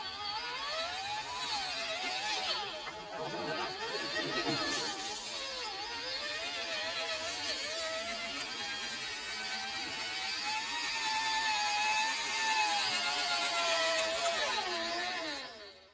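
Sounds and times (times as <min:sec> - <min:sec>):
toy car electric motor whining: 0:00.0 - 0:15.9.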